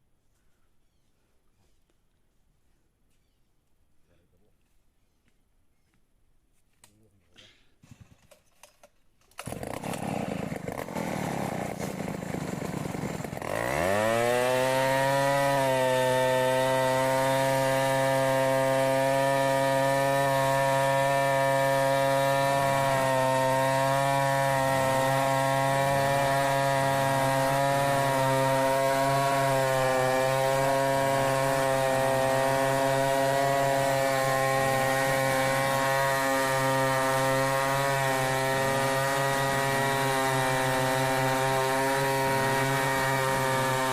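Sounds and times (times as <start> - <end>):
chainsaw ripping a log: 7.8 - 43.9.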